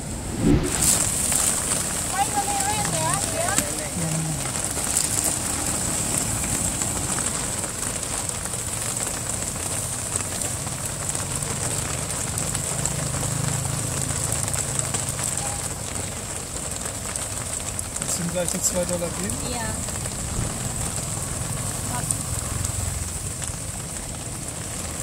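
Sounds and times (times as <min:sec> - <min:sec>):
rain hissing: 0:00.0 - 0:25.0
street noise: 0:00.0 - 0:25.0.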